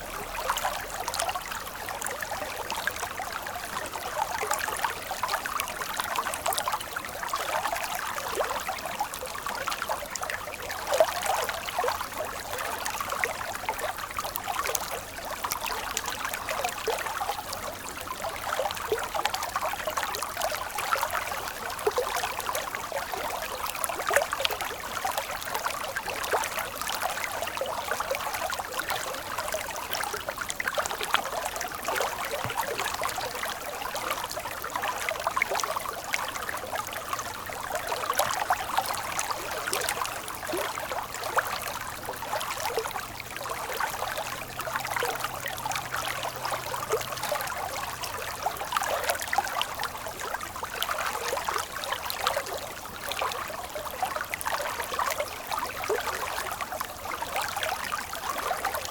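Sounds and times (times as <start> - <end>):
stream water babbling: 0.0 - 58.9.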